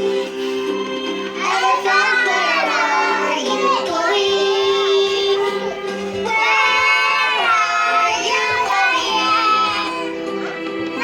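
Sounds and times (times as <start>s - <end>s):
music: 0.0s - 11.0s
children singing: 1.3s - 11.0s.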